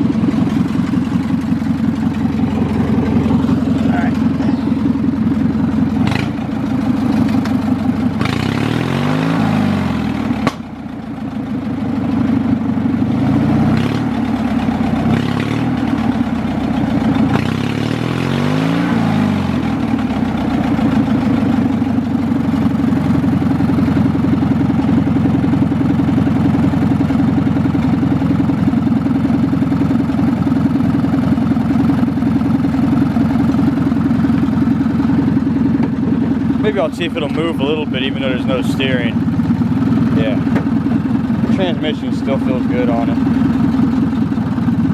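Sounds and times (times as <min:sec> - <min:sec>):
mower engine revving: 0:00.0 - 0:44.9.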